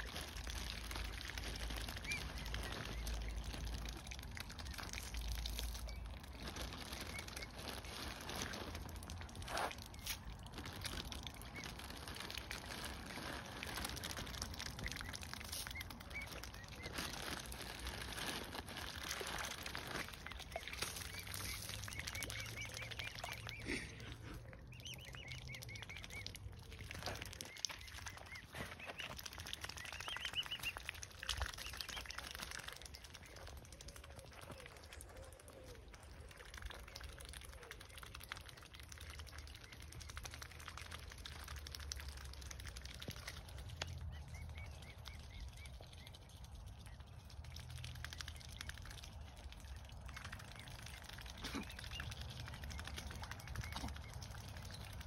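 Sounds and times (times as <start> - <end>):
cygnets peeping: 0.0 - 55.0.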